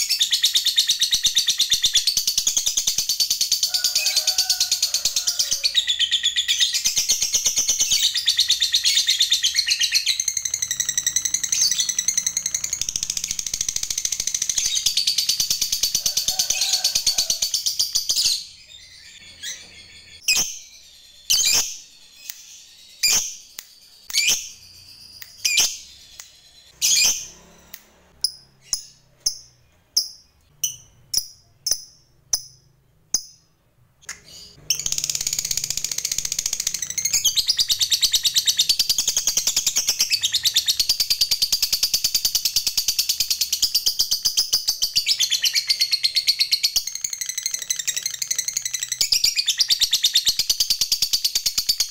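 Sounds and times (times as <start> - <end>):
lovebird chirping: 5.2 - 51.9.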